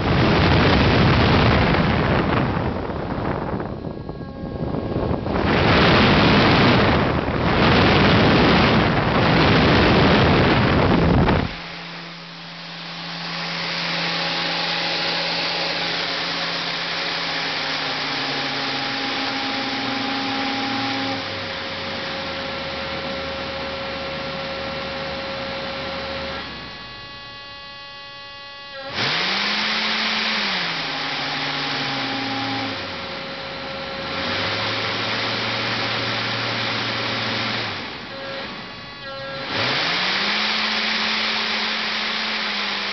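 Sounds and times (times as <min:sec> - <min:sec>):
buzzing hum: 0:00.0 - 0:42.9
electric fan motor whining: 0:00.0 - 0:42.9.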